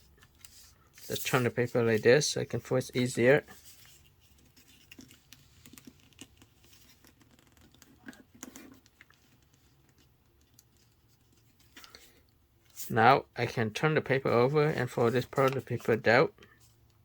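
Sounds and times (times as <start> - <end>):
paper being folded by hand: 0.0 - 12.9, 14.0 - 16.8.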